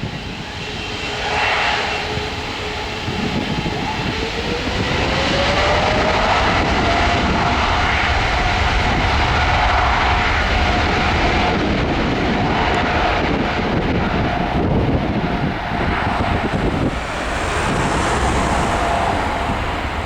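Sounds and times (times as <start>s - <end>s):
jet engines at take-off power: 0.0s - 20.0s.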